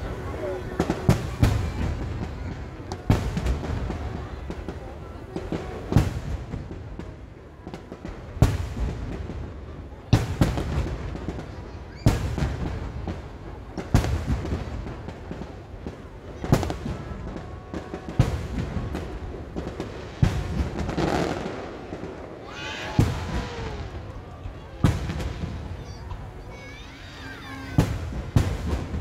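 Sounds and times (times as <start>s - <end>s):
firework shells booming: 0.0s - 26.5s, 27.5s - 29.0s.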